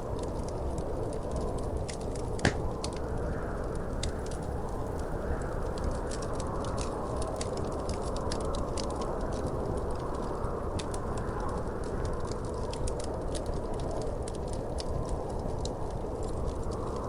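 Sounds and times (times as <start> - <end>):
fire burning rush: 0.0 - 17.0
fire pops and snaps: 0.0 - 17.0.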